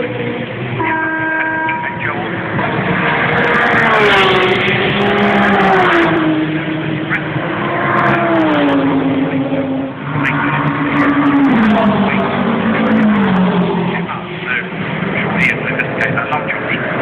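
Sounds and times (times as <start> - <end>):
race car engines at speed: 0.0 - 17.0.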